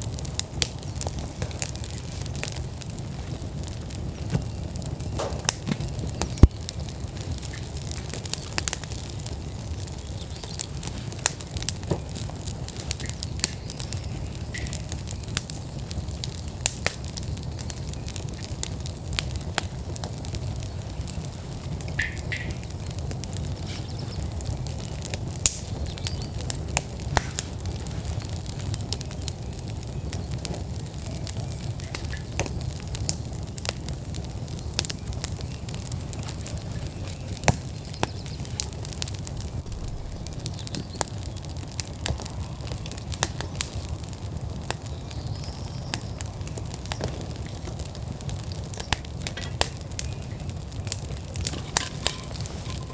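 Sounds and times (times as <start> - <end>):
low fire rumble: 0.0 - 52.9
wood fire crackling and popping: 0.0 - 52.9.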